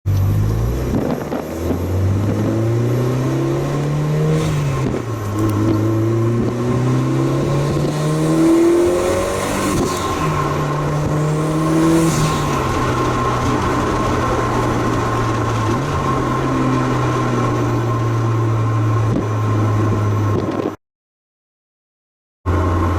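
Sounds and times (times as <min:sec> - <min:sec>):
car engine revving: 0:00.1 - 0:20.7.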